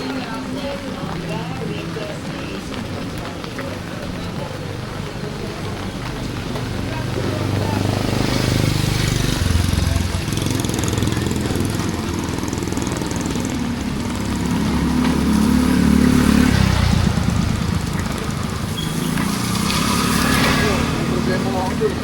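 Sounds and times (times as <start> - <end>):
vehicle engines running: 0.0 - 22.0
rain hiss: 3.2 - 22.0.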